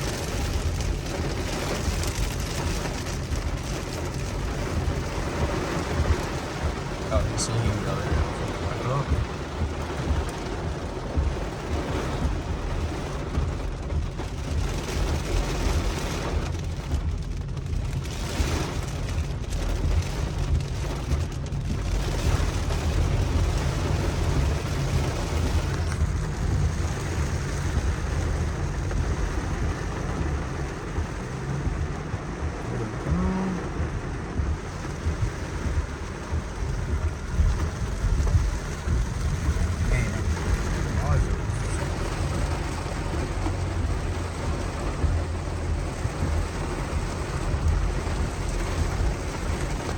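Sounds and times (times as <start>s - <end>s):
car road and wind noise: 0.0s - 49.9s.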